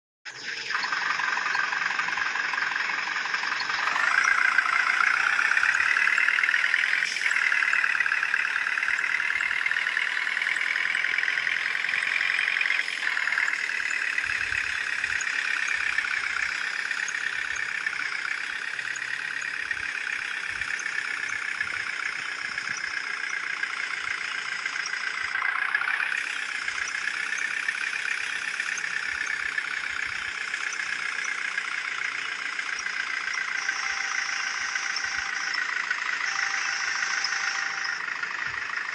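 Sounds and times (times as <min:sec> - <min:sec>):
truck engine running: 0:00.3 - 0:38.9.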